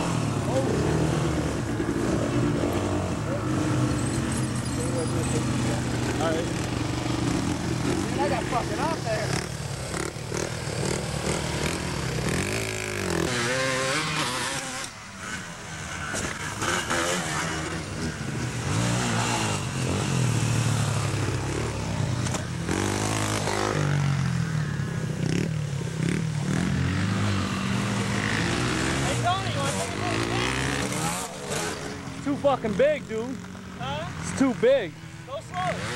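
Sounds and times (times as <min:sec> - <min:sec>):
dirt bike engine revving: 0:00.0 - 0:35.9.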